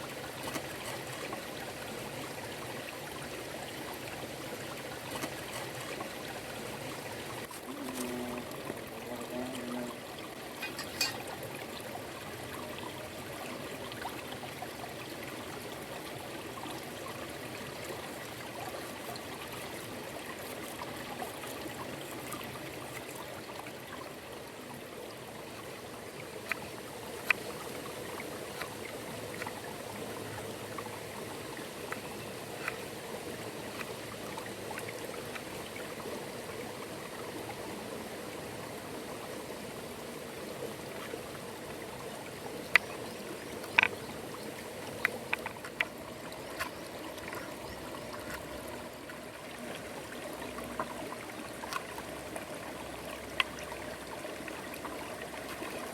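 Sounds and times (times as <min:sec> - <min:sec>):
stream water running: 0:00.0 - 0:55.9.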